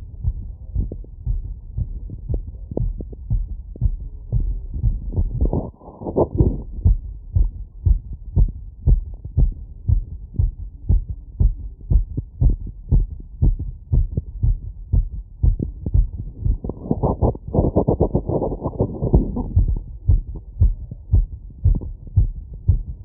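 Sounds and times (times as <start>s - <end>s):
heartbeat through stethoscope: 0.0s - 23.0s.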